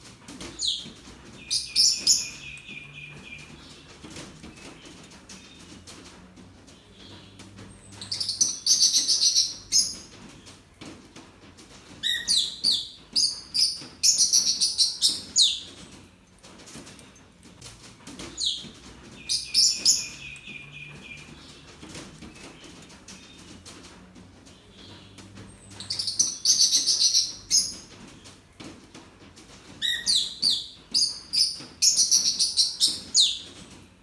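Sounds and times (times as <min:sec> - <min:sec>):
small birds chirping: 0:00.1 - 0:10.9, 0:11.6 - 0:34.0.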